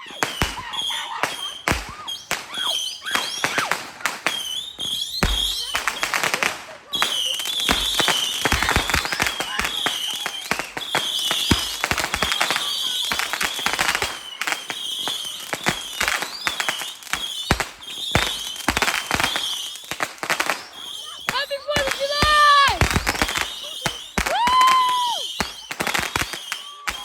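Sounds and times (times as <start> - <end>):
fireworks crackling pops: 0.0 - 27.0.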